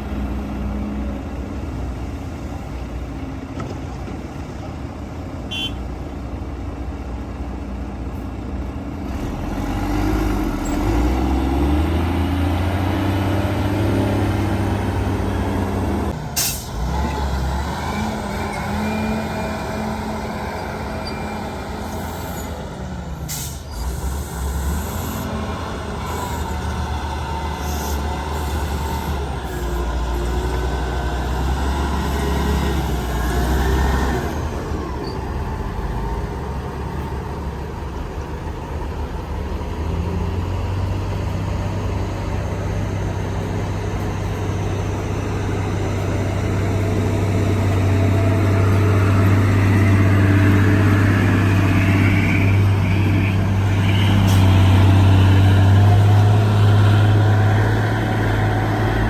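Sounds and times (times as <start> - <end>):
diesel earthmoving machinery drone: 0.0 - 59.0.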